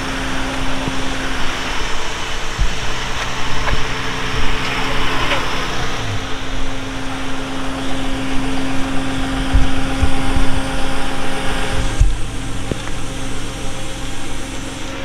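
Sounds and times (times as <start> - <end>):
low thumps: 0.0 - 15.0
vehicle engine humming: 0.0 - 15.0.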